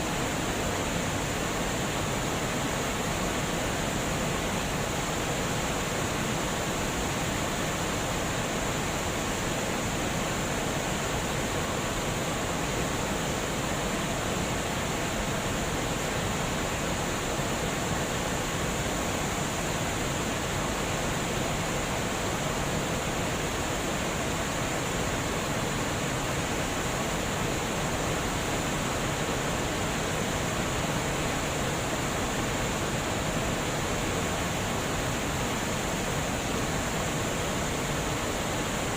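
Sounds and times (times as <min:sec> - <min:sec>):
water rushing over a weir: 0:00.0 - 0:38.9.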